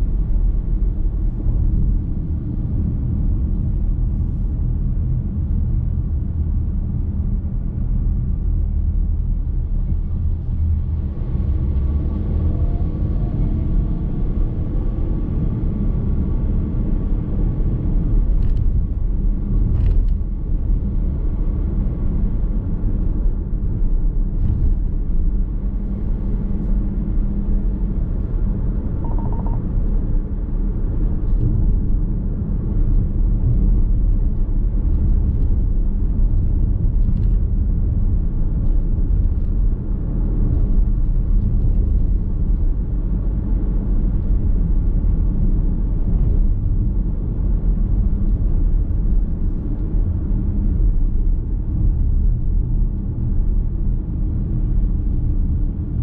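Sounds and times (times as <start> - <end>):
car driving road noise: 0.0 - 56.0.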